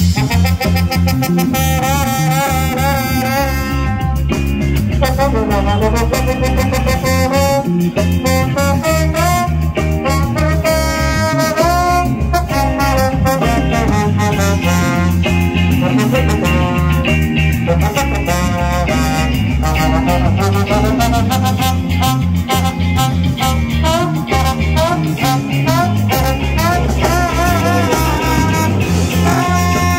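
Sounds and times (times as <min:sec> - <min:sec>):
heavy bass line: 0:00.0 - 0:29.9
reggae band playing: 0:00.0 - 0:29.9
trombone melody: 0:00.0 - 0:29.9.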